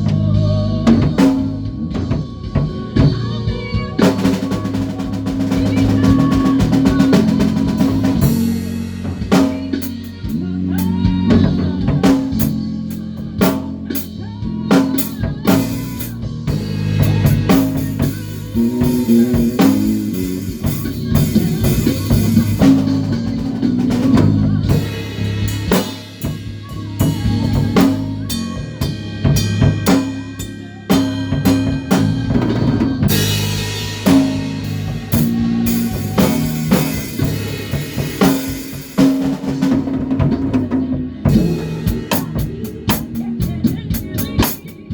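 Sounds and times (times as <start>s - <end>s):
bass line: 0.0s - 44.9s
drum kit playing: 0.0s - 44.9s.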